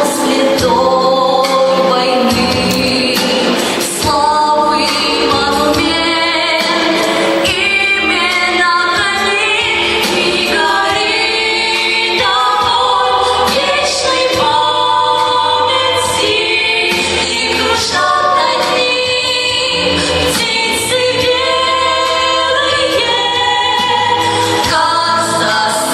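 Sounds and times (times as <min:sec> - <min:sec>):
choir singing: 0:00.0 - 0:25.9.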